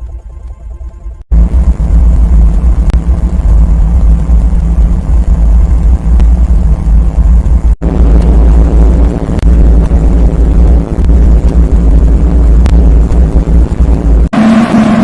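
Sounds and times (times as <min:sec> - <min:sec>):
loud low rumbling: 0:00.7 - 0:15.0.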